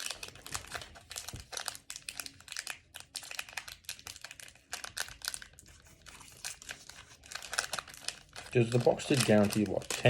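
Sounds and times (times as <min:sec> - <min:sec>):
wrapper crinkling: 0:00.0 - 0:10.0.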